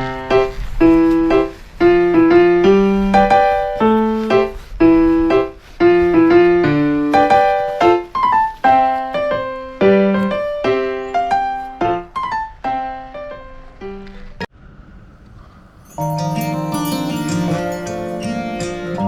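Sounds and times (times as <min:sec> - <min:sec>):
solo piano melody: 0:00.0 - 0:14.5, 0:15.9 - 0:19.0.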